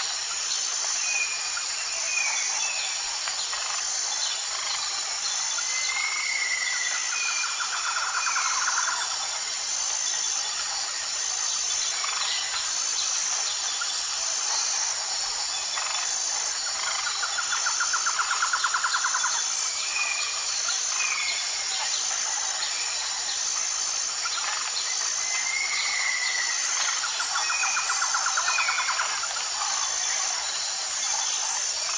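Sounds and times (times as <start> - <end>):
pulsing insect drone: 0.0 - 31.9.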